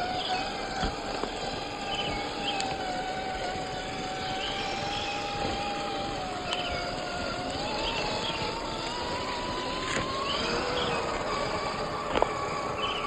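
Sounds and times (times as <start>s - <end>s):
electric motor and gear whine: 0.0s - 13.0s.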